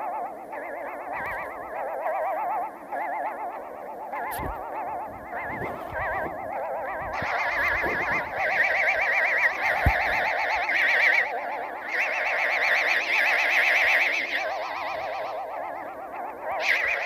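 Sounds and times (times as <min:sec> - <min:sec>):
warbling tones: 0:00.0 - 0:17.0.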